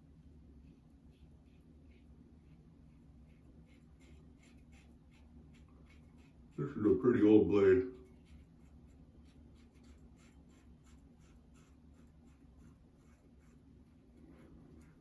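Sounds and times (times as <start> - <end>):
razor scratching stubble: 1.5 - 13.7.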